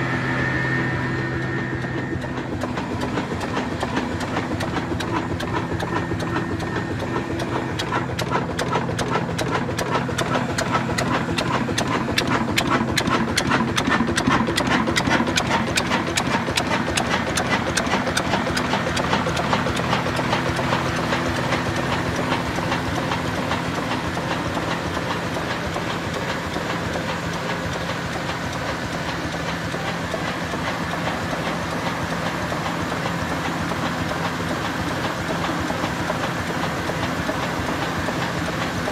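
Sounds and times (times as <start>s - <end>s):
diesel engine clattering: 0.0s - 38.9s.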